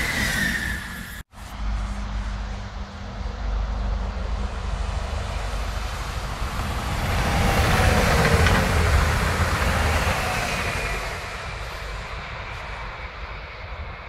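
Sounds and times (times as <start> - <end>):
electric train approaching: 0.0 - 14.0.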